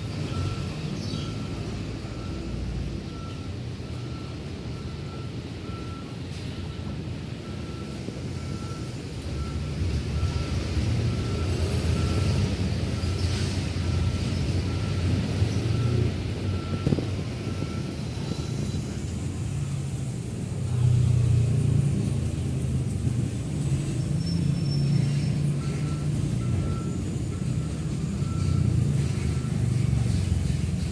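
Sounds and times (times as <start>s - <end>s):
reversing alarm beeping: 0.0s - 20.0s, 23.9s - 30.8s
truck engine running: 0.0s - 30.9s.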